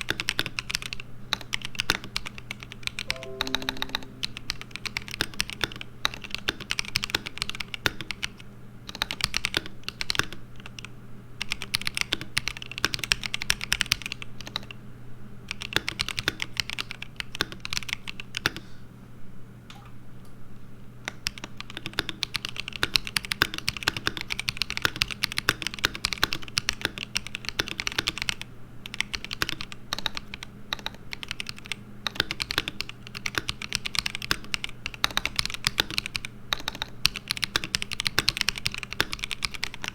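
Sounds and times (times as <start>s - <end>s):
mechanical keyboard typing: 0.0s - 4.3s, 5.0s - 14.7s, 15.5s - 18.6s, 21.1s - 39.9s.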